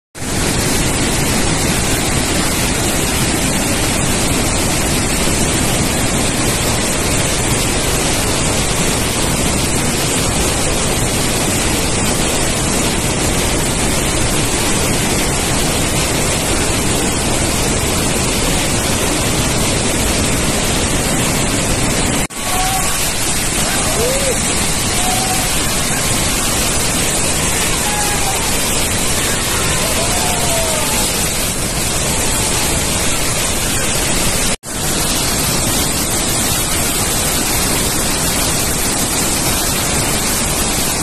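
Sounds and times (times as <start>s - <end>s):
waterfall rushing: 0.2s - 41.0s.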